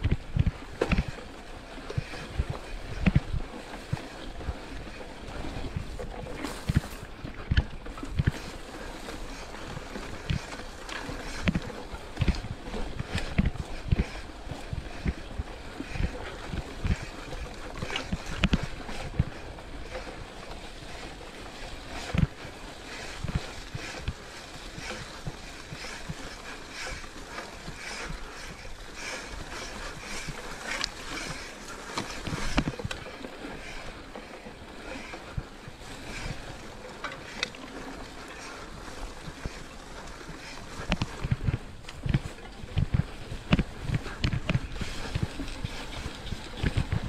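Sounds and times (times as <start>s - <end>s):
steady rushing noise: 0.0s - 47.0s.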